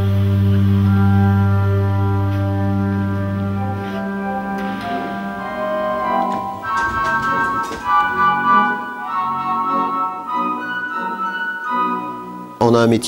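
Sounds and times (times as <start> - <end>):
pipe organ playing chords: 0.0 - 12.7.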